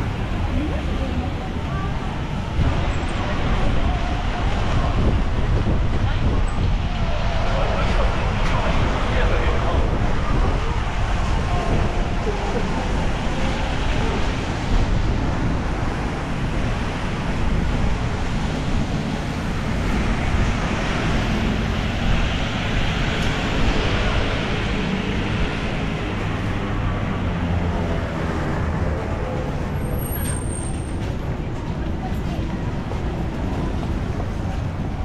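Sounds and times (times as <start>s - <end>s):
rumble of traffic engines: 0.0s - 35.0s.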